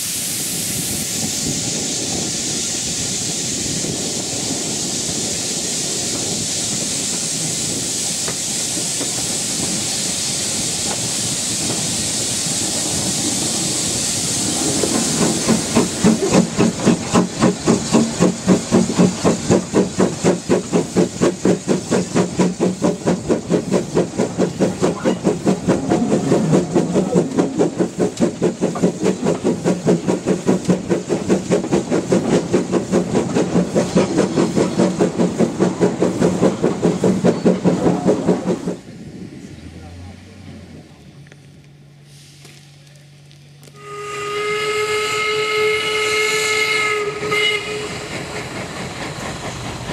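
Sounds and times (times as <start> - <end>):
steam hissing: 0.0 - 39.5, 42.0 - 42.7, 43.8 - 49.9
steam locomotive exhaust beats: 0.0 - 49.9.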